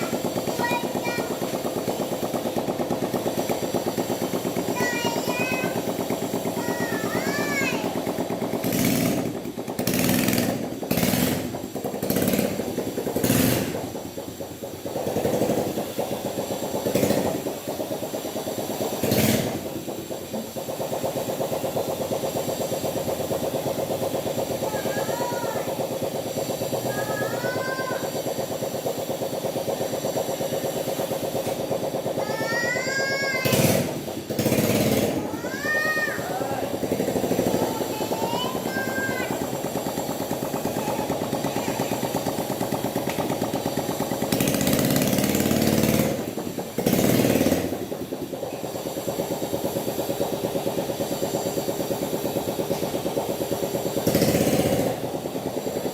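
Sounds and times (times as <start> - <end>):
small motorcycle engine running: 0.0 - 55.9.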